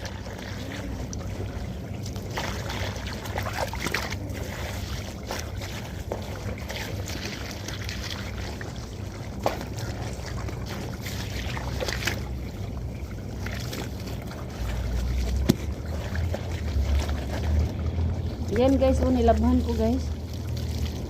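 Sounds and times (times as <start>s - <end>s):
water running and sloshing: 0.0s - 21.0s.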